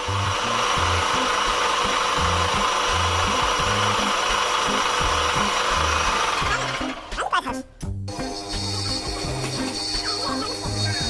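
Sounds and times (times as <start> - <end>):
power tool hissing and whining: 0.0 - 7.2, 8.1 - 11.0.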